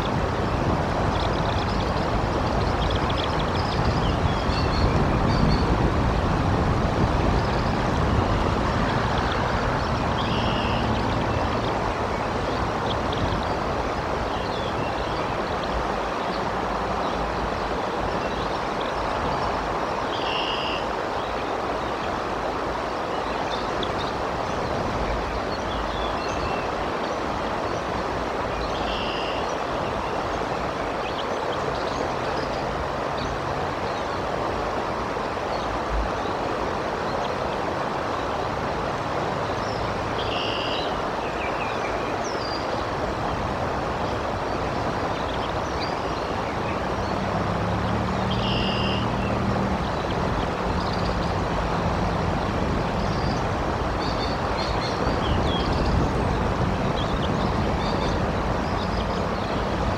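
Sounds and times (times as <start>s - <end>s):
rain: 0.0s - 59.9s
river rushing: 0.0s - 59.9s
wind: 0.0s - 59.9s.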